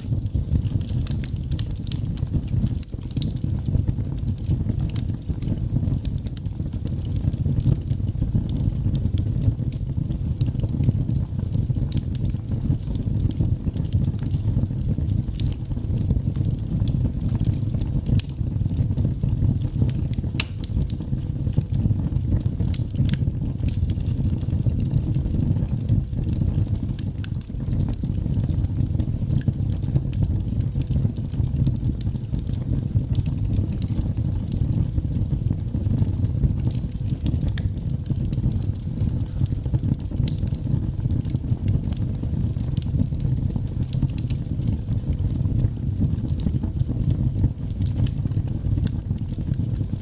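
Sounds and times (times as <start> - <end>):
fire crackling and popping: 0.0 - 50.0.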